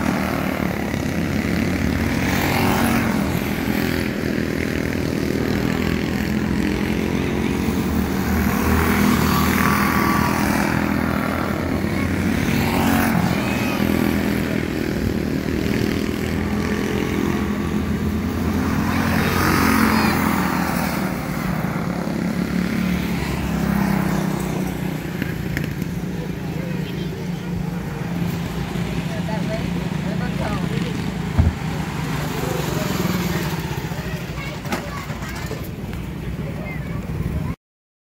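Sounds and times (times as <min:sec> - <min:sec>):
small race car engines: 0:00.0 - 0:37.6.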